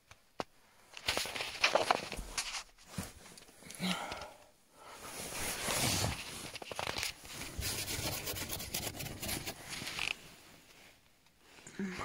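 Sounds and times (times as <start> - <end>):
rustling and rubbing: 0.8 - 3.6, 4.8 - 11.6.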